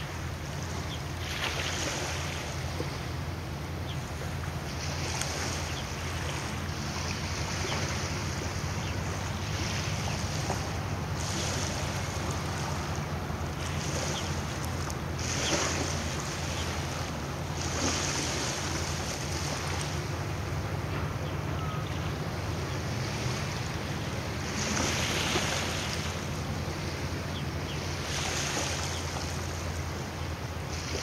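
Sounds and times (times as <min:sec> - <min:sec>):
waves splashing: 0:00.0 - 0:31.0.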